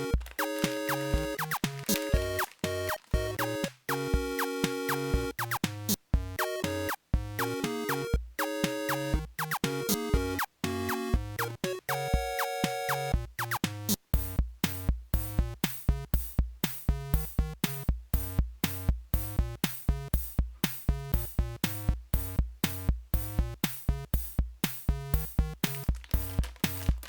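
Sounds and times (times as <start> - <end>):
drum machine beat with synth: 0.0 - 27.0.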